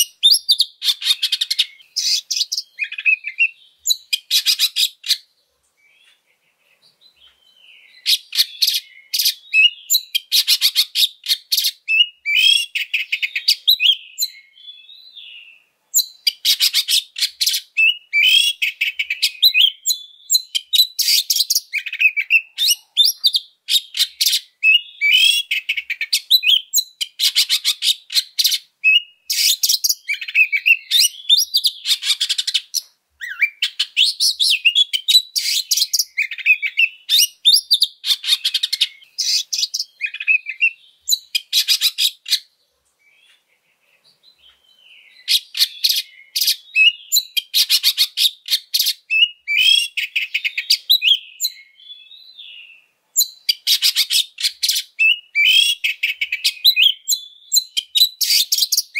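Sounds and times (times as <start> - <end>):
bird singing harsh chattering notes: 0.0 - 42.5, 43.1 - 58.9.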